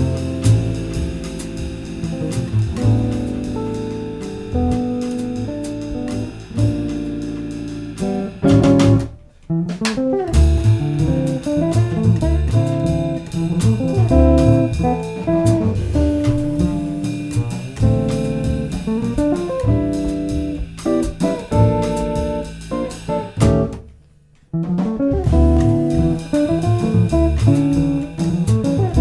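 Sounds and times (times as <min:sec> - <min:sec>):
drums: 0:00.0 - 0:29.0
walking double bass: 0:00.0 - 0:29.0.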